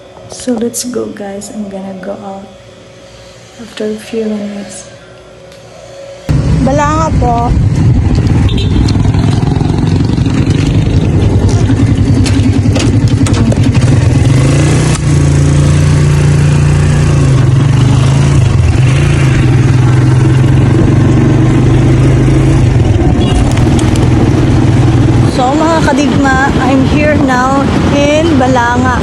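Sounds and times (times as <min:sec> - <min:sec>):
vehicle engine low hum: 0:05.2 - 0:29.0.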